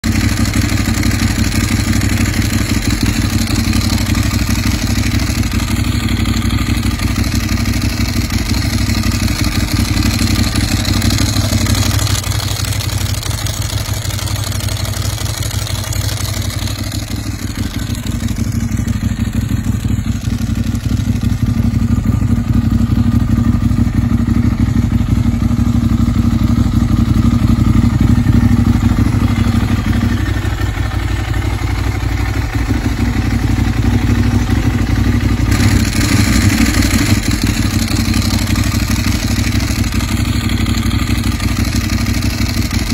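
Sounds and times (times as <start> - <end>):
motorcycle engine idling: 0.0 - 42.9
dry clutch rattling: 0.1 - 24.1, 25.9 - 42.9.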